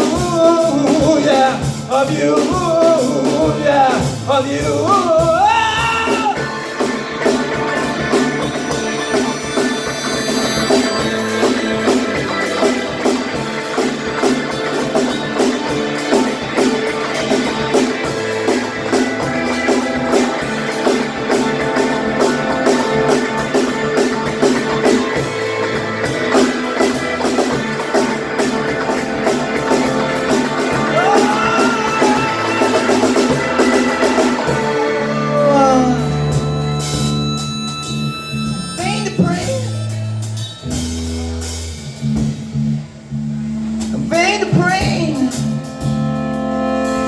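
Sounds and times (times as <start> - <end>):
drums beating: 0.0 - 43.0, 43.6 - 47.0
live rock band playing: 0.0 - 47.0
held low notes ringing: 6.4 - 47.0.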